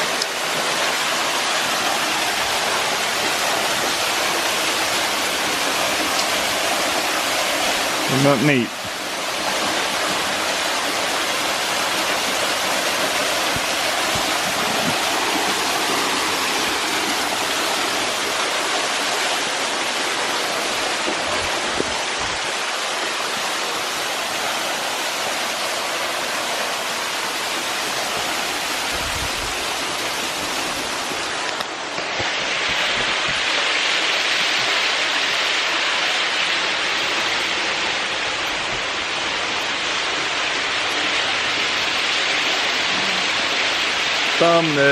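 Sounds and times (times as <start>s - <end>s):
waterfall pouring into creek: 0.0s - 44.9s.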